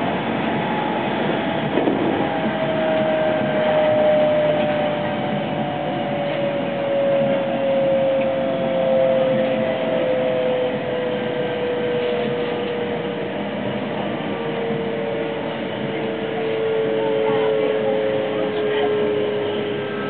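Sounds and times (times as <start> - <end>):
train traction motor whine: 0.0 - 20.0
wheels rumbling on rail: 0.0 - 20.0.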